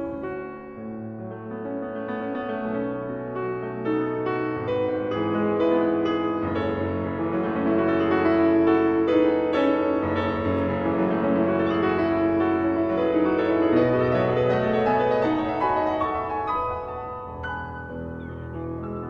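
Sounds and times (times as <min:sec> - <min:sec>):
slow classical piano music: 0:00.0 - 0:19.0.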